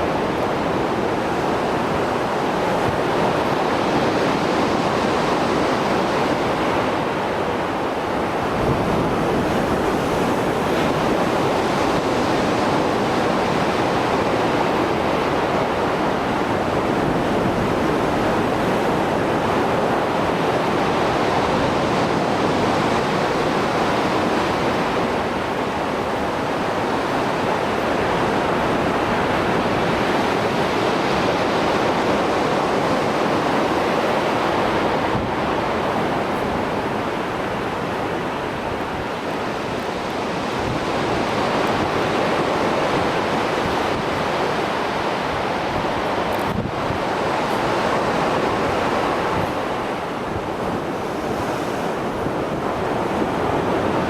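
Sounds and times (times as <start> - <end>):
waves breaking: 0.0 - 54.0.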